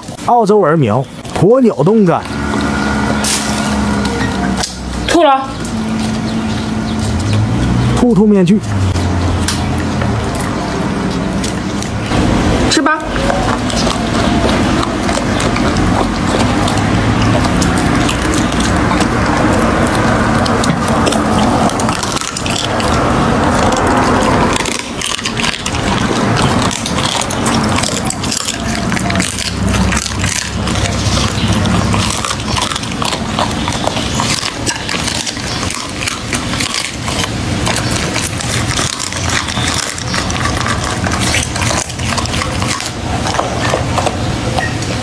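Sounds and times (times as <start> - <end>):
dog chewing meat and bone: 0.0 - 45.0.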